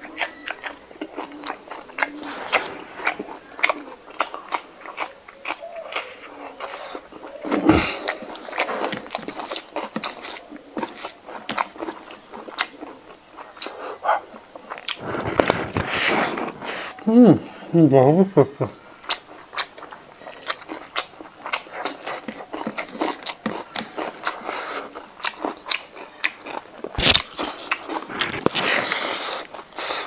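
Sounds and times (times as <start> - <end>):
chewing and lip-smacking: 0.0 - 15.5, 19.0 - 30.0.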